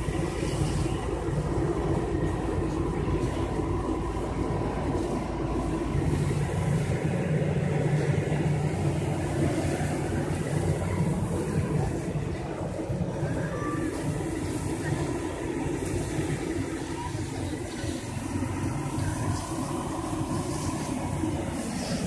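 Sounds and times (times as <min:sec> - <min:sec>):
constant hiss: 0:00.0 - 0:22.0
fire engine pumps droning: 0:00.0 - 0:22.0.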